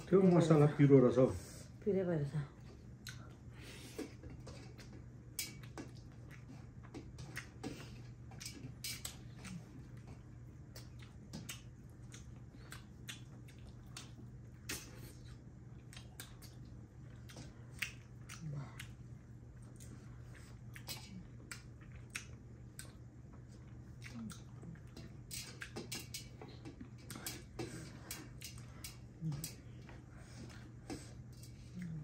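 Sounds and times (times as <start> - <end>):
steady low hum: 0.0 - 32.0
wet chewing and mouth smacks: 2.9 - 32.0.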